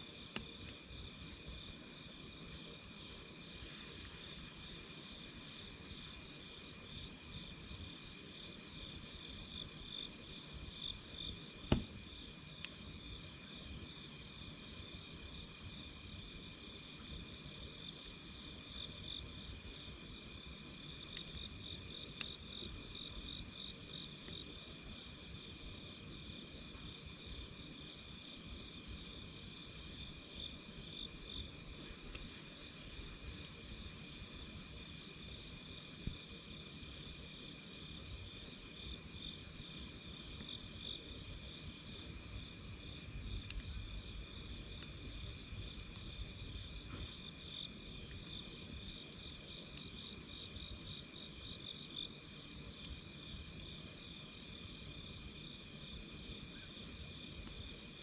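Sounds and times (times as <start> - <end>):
campfire crackling: 0.0 - 58.0
high pulsing insect chirr: 0.2 - 58.0.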